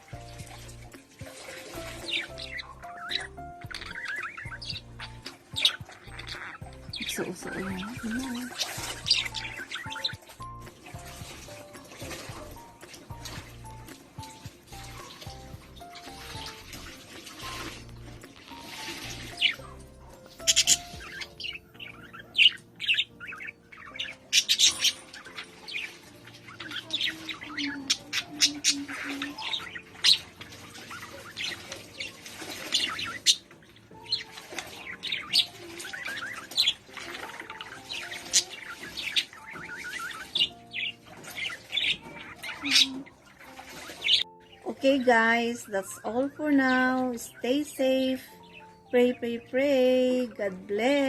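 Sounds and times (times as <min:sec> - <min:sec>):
lovebirds chirping and squawking: 0:00.0 - 0:51.0
soft background music: 0:00.0 - 0:51.0.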